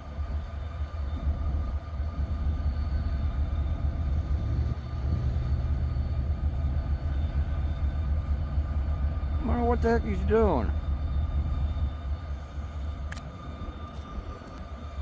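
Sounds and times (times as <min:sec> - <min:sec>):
diesel locomotive idling: 0:00.0 - 0:15.0
faint steady tones: 0:00.0 - 0:15.0
low hum: 0:00.0 - 0:15.0.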